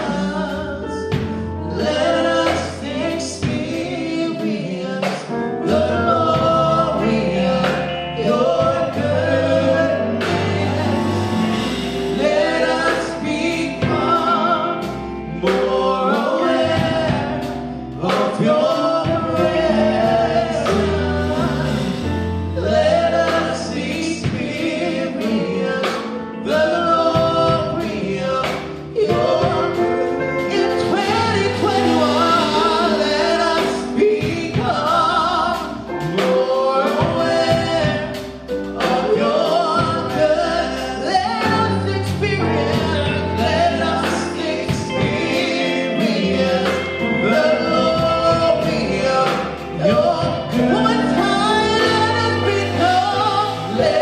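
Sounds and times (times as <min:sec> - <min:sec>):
drum kit: 0:00.0 - 0:54.0
guitars: 0:00.0 - 0:54.0
keyboard: 0:00.0 - 0:54.0.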